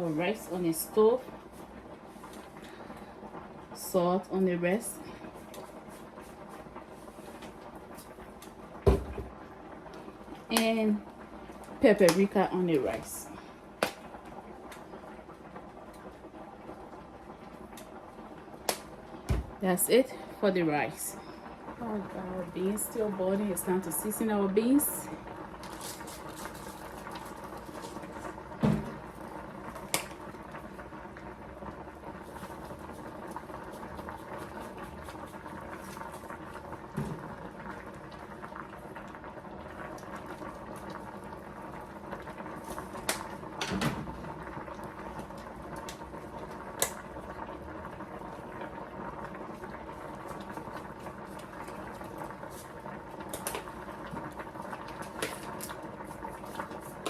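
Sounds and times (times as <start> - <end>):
pot of beans bubbling: 0.0 - 57.0.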